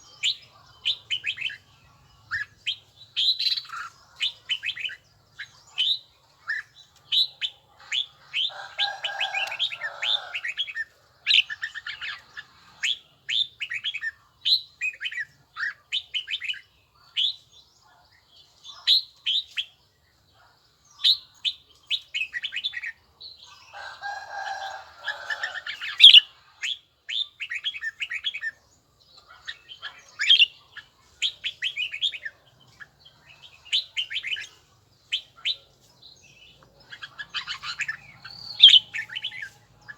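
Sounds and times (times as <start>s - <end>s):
bulbul chirping song: 0.0s - 17.7s, 25.1s - 39.9s.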